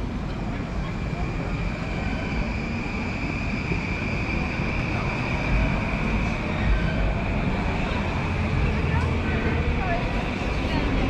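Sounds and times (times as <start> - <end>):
street traffic: 0.0 - 11.0
train high whine: 0.0 - 11.0
train rumble: 0.0 - 11.0.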